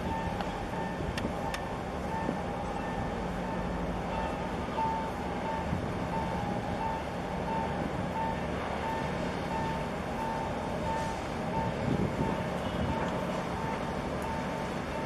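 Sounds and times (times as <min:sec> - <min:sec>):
reversing alarm beeping: 0:00.0 - 0:15.0.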